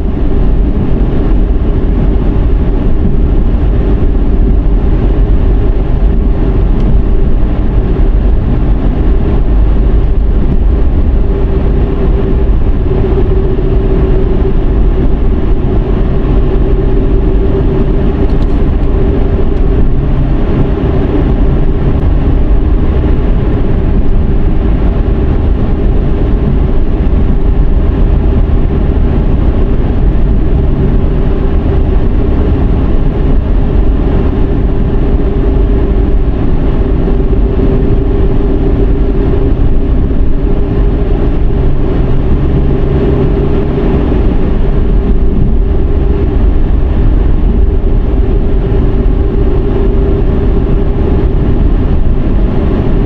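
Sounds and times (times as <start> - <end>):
road and engine rumble: 0.0 - 53.0
steady drone: 0.0 - 53.0.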